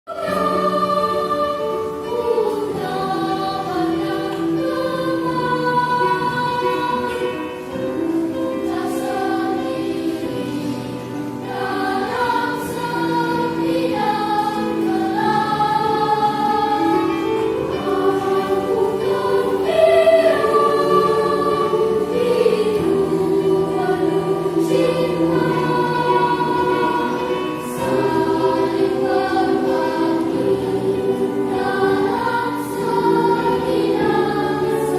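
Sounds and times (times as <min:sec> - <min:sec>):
choir singing in harmony: 0:00.1 - 0:34.9.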